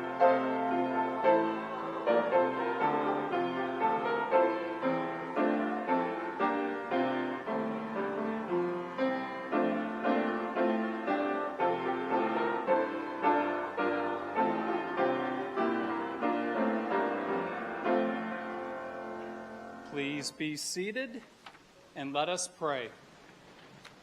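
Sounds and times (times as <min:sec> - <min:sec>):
piano playing hymn chords: 0:00.0 - 0:20.8.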